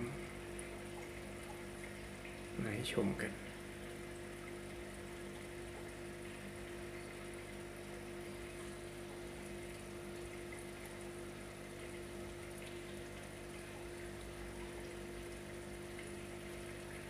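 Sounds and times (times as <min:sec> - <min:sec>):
aquarium air pump humming: 0:00.0 - 0:17.0
water bubbling in filters: 0:00.0 - 0:17.0.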